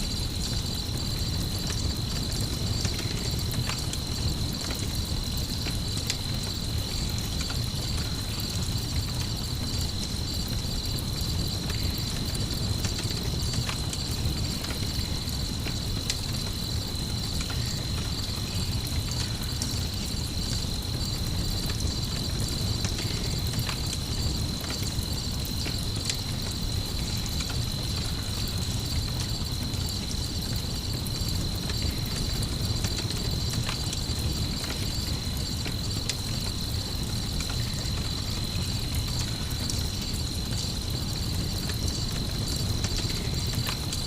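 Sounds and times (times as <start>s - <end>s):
campfire crackling and popping: 0.0s - 44.0s
crickets chirping: 0.0s - 44.0s.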